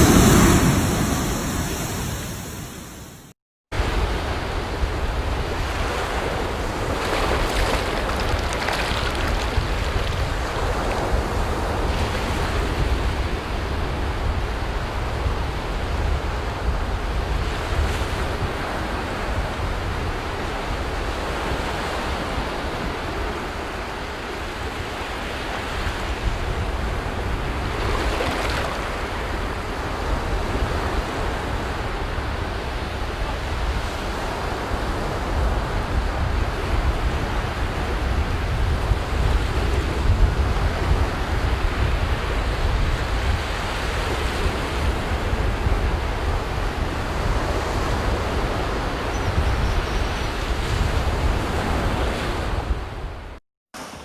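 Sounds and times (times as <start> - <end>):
sea waves breaking on beach: 0.0 - 3.1, 3.9 - 14.7, 18.0 - 49.0
wind rumble on microphone: 0.0 - 53.4.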